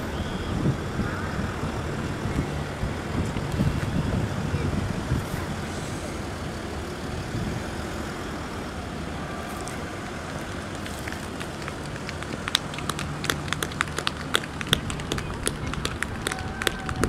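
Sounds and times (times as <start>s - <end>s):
cars passing by: 0.0s - 17.0s.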